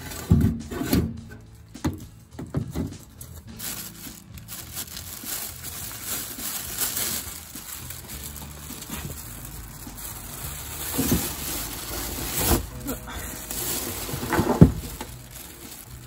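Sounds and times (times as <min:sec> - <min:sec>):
plastic bag crinkling: 0:03.0 - 0:16.0.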